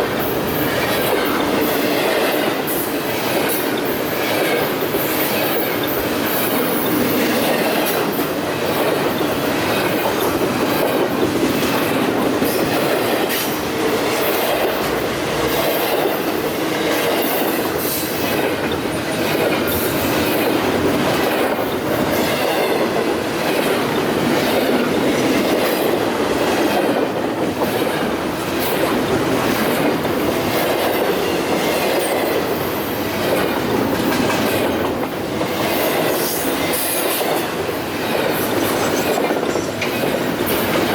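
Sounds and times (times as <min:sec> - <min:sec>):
freight train wheels rumbling: 0:00.0 - 0:40.9
wheels clicking over rail joints: 0:00.0 - 0:40.9.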